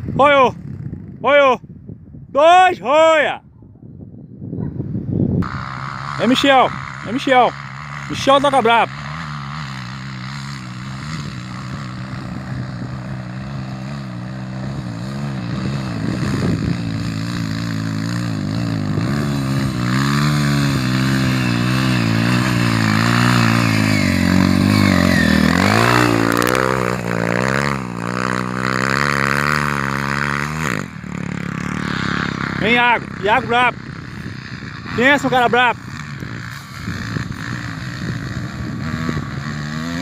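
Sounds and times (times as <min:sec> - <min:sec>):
motorcycle engine revving: 0:05.4 - 0:40.0.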